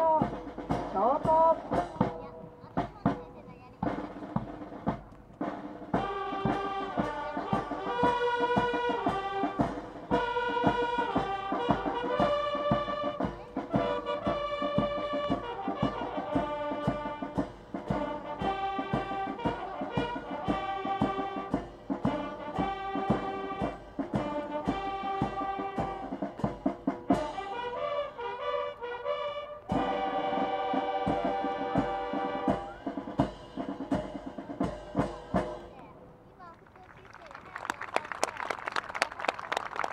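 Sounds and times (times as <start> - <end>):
bugles playing in harmony: 0.0 - 3.2, 3.8 - 35.7
drum beat: 0.0 - 28.4, 29.6 - 36.5.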